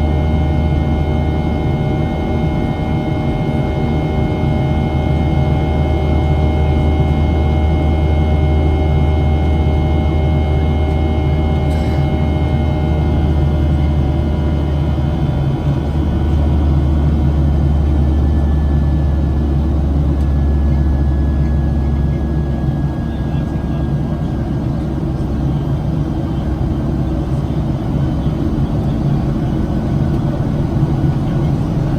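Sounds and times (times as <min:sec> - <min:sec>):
jet engine cabin rumble: 0:00.0 - 0:31.9
steady whining tones: 0:00.0 - 0:31.9.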